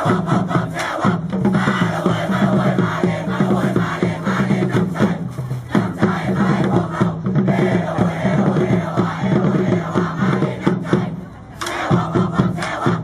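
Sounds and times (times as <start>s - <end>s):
crowd chanting a cheer: 0.0s - 13.0s
music: 0.0s - 13.0s.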